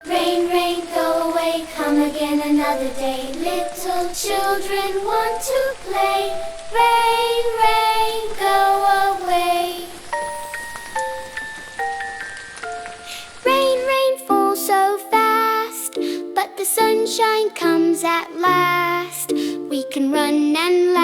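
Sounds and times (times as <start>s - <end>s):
music: 0.0s - 6.7s, 7.6s - 21.0s
child singing: 0.0s - 10.3s, 13.4s - 21.0s.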